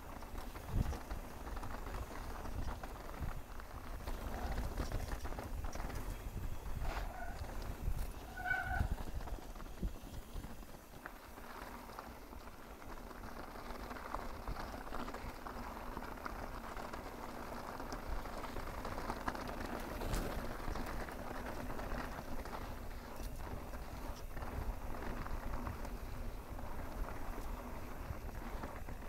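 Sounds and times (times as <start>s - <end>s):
tyres crackling over dirt: 0.0s - 29.0s.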